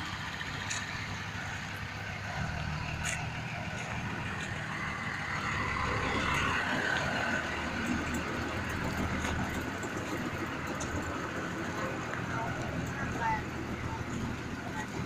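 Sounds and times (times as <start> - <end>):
road roller engine running: 0.0 - 15.0.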